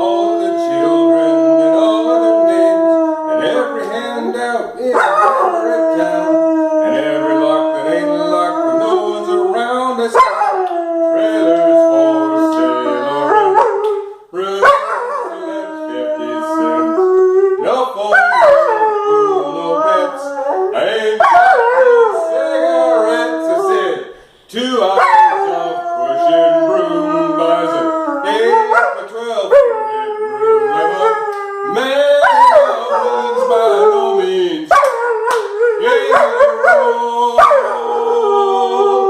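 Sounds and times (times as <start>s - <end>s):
dog howling: 0.0s - 24.1s, 24.8s - 39.0s.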